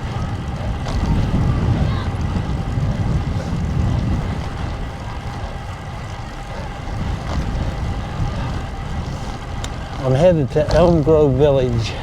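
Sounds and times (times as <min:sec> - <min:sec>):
bicycle tyres humming on road: 0:00.0 - 0:12.0
wind buffeting microphone: 0:00.0 - 0:12.0.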